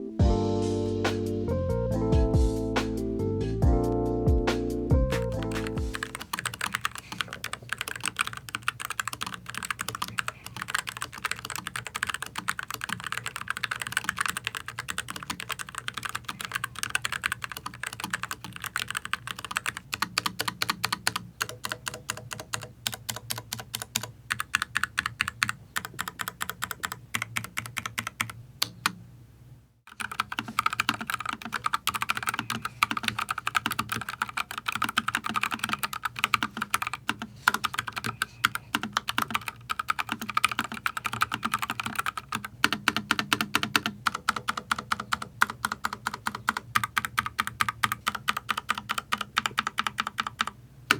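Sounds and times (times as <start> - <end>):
fast typing on mechanical keyboard: 5.1 - 29.0, 29.9 - 50.6.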